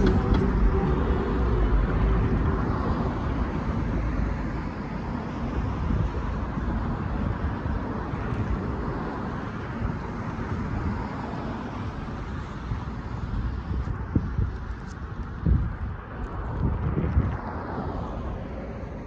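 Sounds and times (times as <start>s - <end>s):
cars driving past: 0.0s - 19.0s
wind rumbling on microphone: 0.0s - 19.0s.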